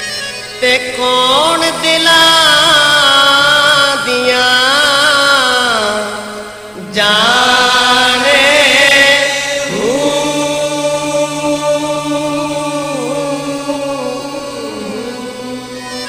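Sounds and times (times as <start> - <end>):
person singing long notes: 0.6 - 16.0
low drone: 0.8 - 16.0.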